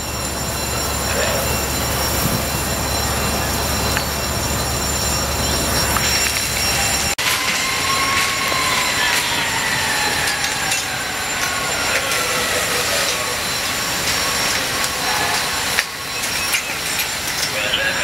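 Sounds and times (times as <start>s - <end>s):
siren winding down: 0.0s - 18.0s.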